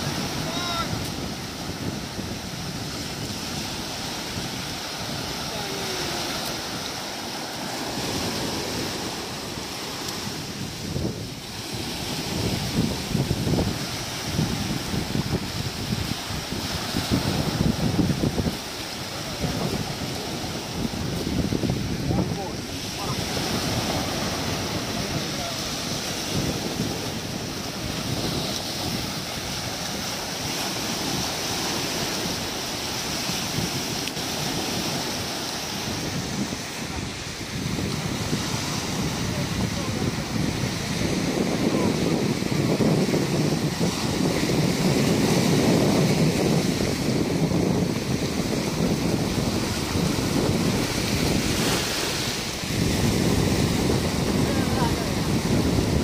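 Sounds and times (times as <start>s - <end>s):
surf washing onto beach: 0.0s - 56.0s
wind buffeting microphone: 0.0s - 56.0s.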